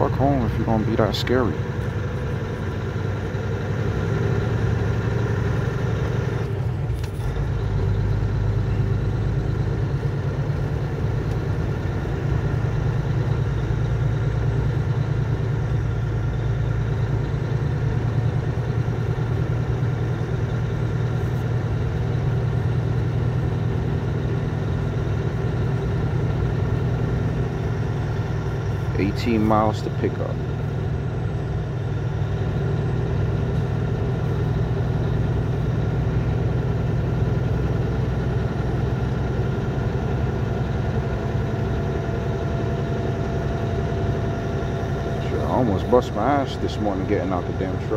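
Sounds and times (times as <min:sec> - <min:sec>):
diesel truck engine running: 0:00.0 - 0:47.9
road noise: 0:00.0 - 0:47.9.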